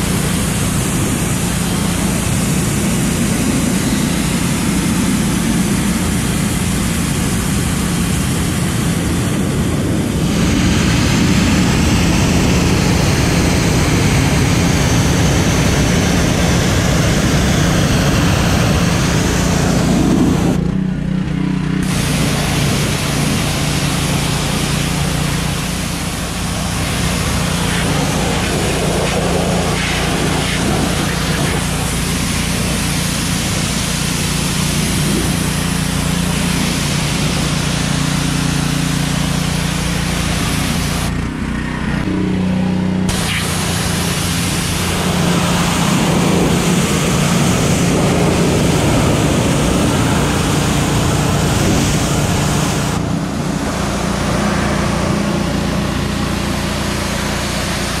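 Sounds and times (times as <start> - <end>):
pressure washer hum: 0.0 - 58.0
water jet blasting mud: 0.0 - 58.0.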